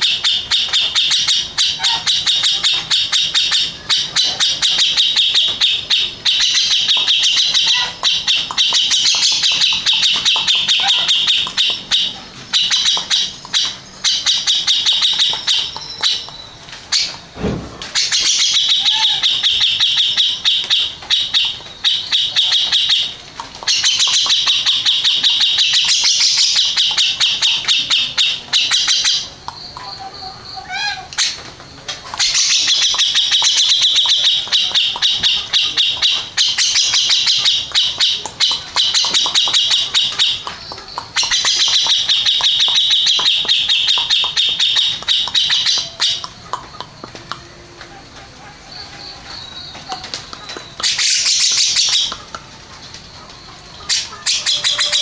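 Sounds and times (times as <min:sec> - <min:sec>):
bulbul singing chattering phrases: 0:00.0 - 0:55.0.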